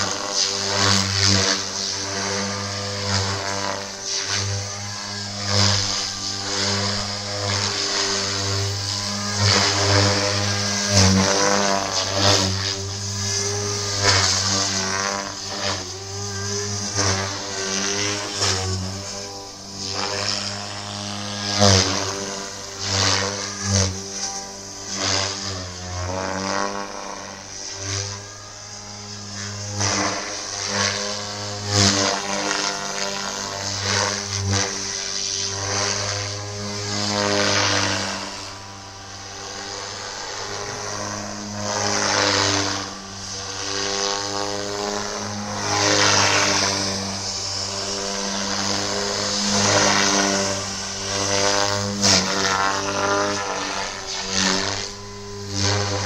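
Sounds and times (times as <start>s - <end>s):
rc helicopter motor and rotor: 0.0s - 56.0s.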